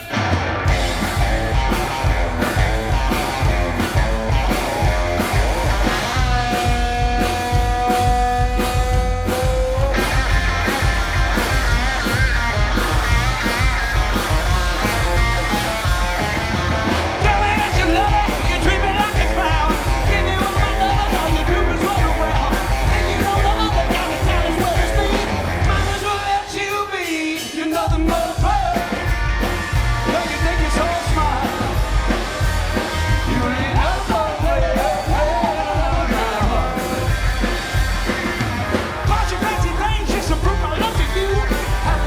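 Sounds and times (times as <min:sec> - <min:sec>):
drum beat: 0:00.0 - 0:42.0
electric guitar: 0:00.0 - 0:42.0
rock band playing loudly: 0:00.0 - 0:42.0.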